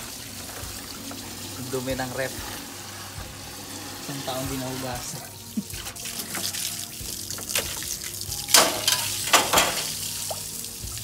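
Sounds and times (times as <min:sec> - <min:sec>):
hose water splashing in refrigerator: 0:00.0 - 0:11.0.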